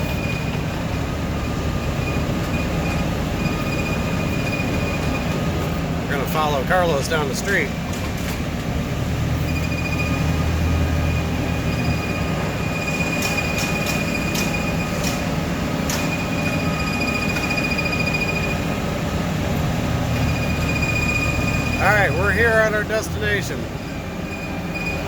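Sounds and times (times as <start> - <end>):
forklift engine drone with whine: 0.0 - 25.0.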